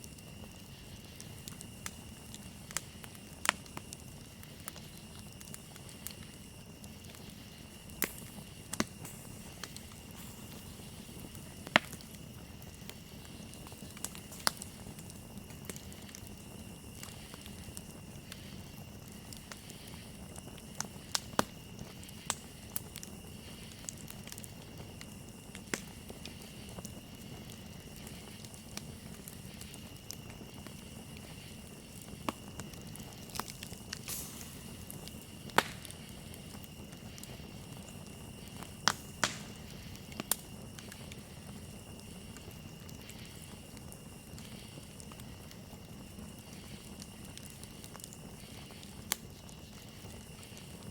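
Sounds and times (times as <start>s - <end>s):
campfire crackling and popping: 0.0s - 50.9s
crickets chirring: 0.0s - 50.9s.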